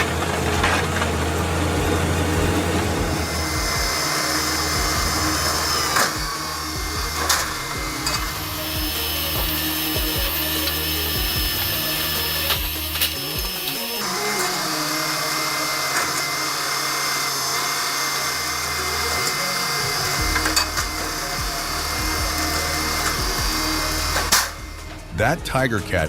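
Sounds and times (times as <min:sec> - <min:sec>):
machine engine drone: 0:00.0 - 0:26.0
wood cutting: 0:00.0 - 0:26.0.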